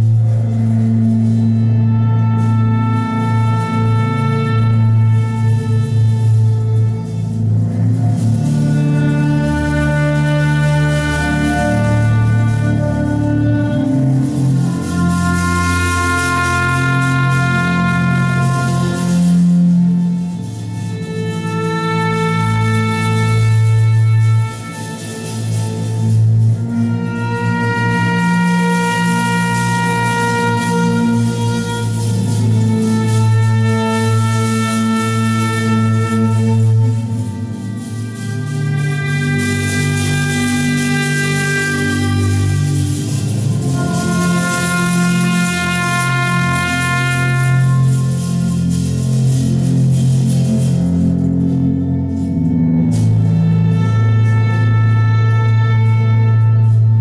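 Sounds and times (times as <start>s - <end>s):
low drone: 0.0s - 57.0s
trumpet playing long notes: 0.0s - 57.0s
violins playing long notes: 0.0s - 57.0s.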